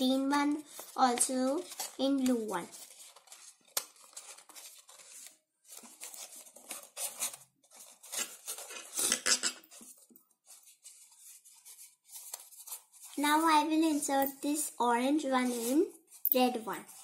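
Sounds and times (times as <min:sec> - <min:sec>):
paper rustling and scraping: 0:00.2 - 0:13.5, 0:15.2 - 0:17.0.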